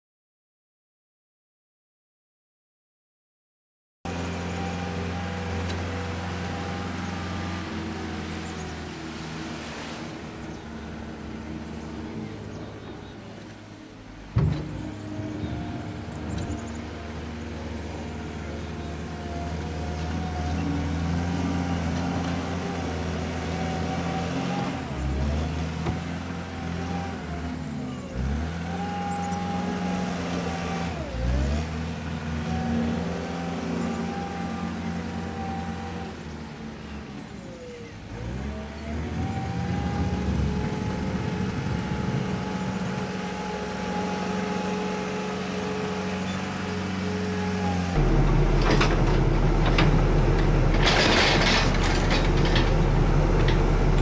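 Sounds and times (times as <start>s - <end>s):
diesel engine under load: 4.1s - 54.0s.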